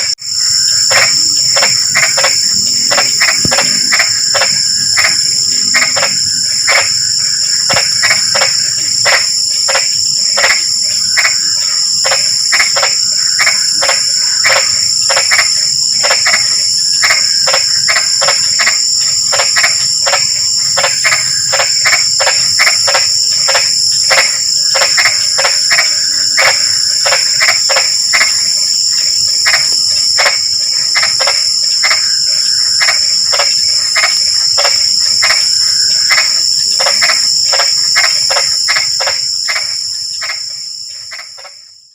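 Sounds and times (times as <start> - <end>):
frogs croaking: 0.0 - 41.9
insects trilling: 0.0 - 41.9.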